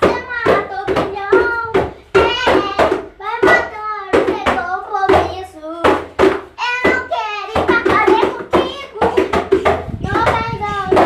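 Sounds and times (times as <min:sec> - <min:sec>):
boys singing: 0:00.0 - 0:11.0
hands slapping plastic bucket: 0:00.0 - 0:11.0.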